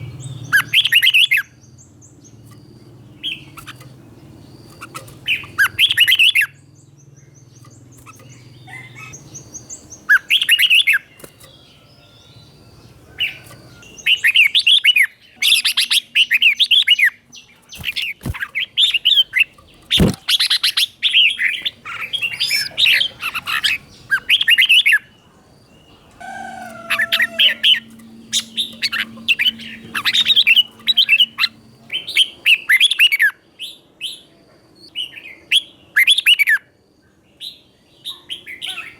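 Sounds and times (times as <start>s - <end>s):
bulbul singing warbled phrases: 0.0s - 35.1s.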